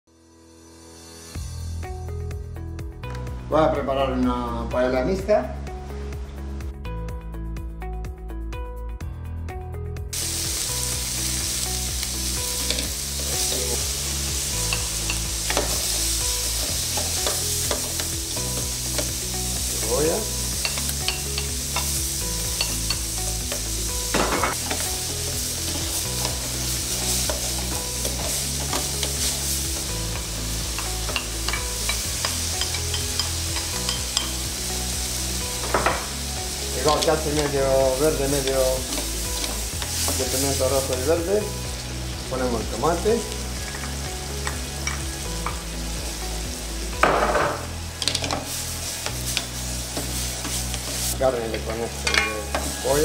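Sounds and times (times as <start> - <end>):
seafood sizzling in hot oil: 10.2 - 53.0.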